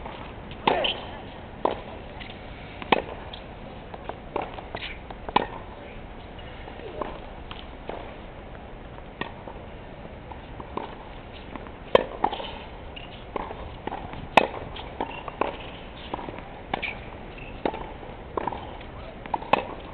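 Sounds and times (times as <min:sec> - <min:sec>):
racket striking tennis ball: 0:00.0 - 0:05.8, 0:06.4 - 0:09.7, 0:10.3 - 0:19.9
tennis ball bouncing: 0:00.0 - 0:19.9.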